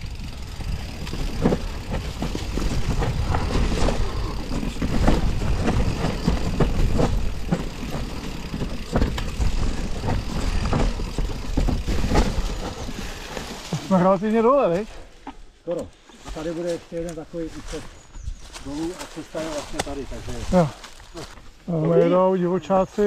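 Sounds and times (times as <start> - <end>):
bike knocking and rattling: 0.0 - 17.8, 18.5 - 21.6
bike ride rumble: 0.0 - 23.0.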